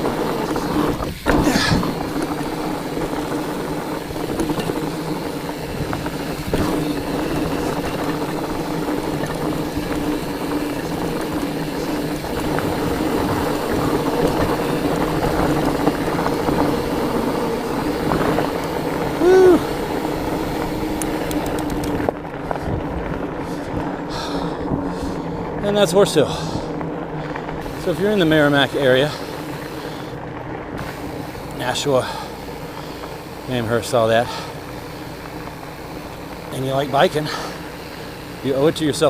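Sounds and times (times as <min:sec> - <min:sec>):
bike tyres humming on rough ground: 0:00.0 - 0:39.0.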